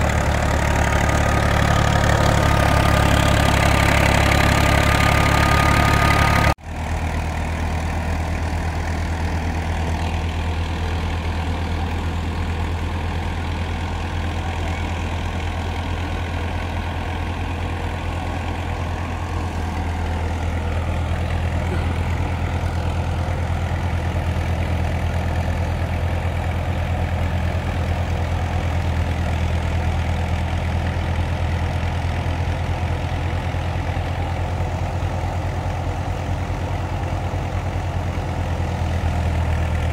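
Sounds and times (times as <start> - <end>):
diesel tractor engine droning: 0.0 - 39.9.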